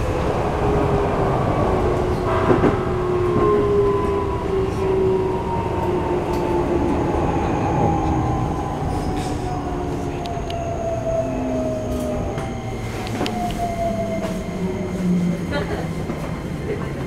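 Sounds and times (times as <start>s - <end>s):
train inverter whine: 0.0s - 17.0s
wheels rumbling on rail: 0.0s - 17.0s.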